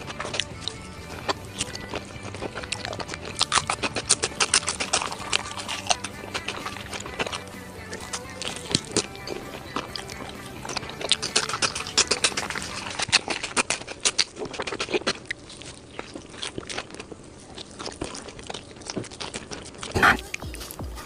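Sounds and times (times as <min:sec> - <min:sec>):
chewing crunchy pork crackling: 0:00.0 - 0:21.0.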